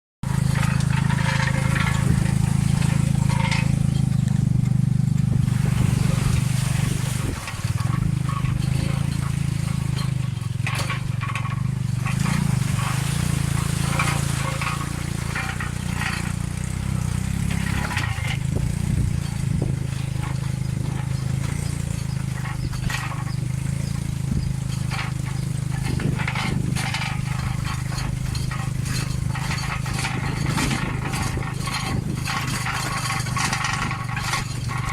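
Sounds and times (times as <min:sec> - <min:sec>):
carriage knocking and rattling: 0:00.2 - 0:34.9
motorcycle engine running: 0:00.2 - 0:34.9.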